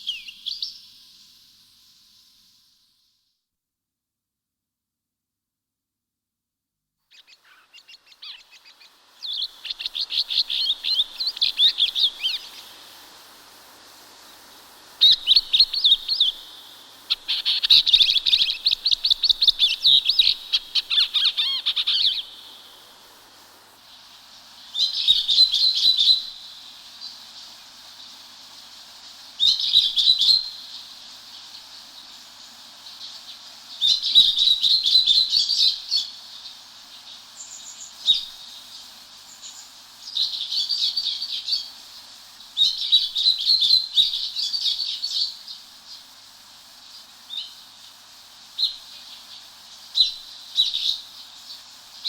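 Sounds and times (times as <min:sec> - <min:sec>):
songbird chirping: 0:00.0 - 0:02.8, 0:07.1 - 0:52.0
faint steady hiss: 0:00.0 - 0:03.6, 0:06.8 - 0:52.0.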